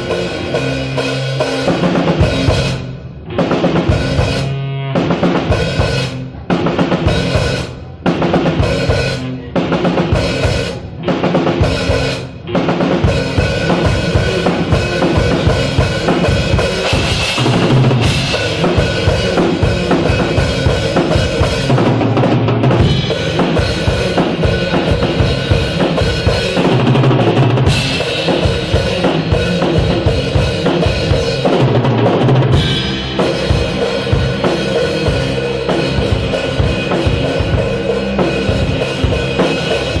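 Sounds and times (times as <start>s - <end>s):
drum kit: 0.0s - 40.0s
rock band playing: 0.0s - 40.0s.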